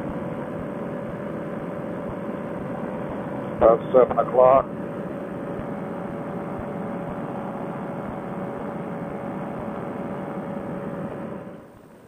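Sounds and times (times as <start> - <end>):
paramotor engine droning: 0.0 - 12.0.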